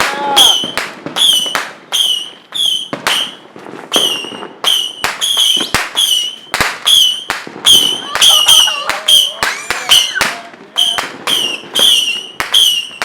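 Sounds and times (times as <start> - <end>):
fireworks bangs and pops: 0.0 - 13.0
high firework whistles: 0.0 - 13.0.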